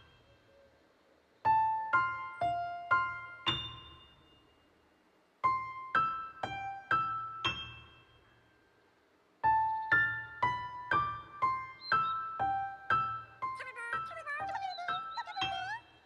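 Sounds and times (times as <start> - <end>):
piano-like keyboard notes: 1.4 - 4.7, 5.4 - 8.6, 9.4 - 16.0.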